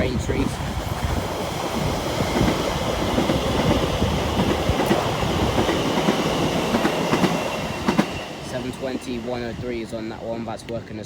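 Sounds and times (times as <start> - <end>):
train wheels clattering over rails: 0.4 - 10.9.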